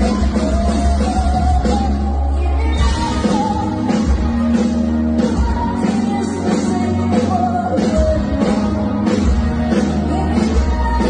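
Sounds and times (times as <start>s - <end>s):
person singing: 0.0s - 11.0s
rock band with heavy bass: 0.0s - 11.0s.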